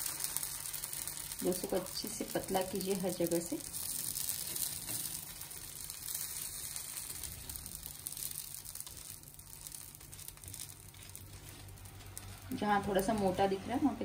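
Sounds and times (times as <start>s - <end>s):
batter sizzling on hot griddle: 0.0s - 14.0s.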